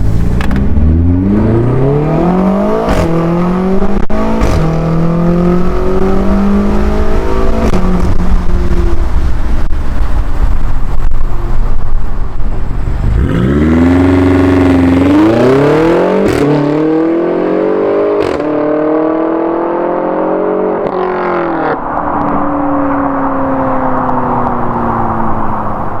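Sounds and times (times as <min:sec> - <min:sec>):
car engine accelerating hard: 0:00.0 - 0:11.8, 0:12.6 - 0:26.0.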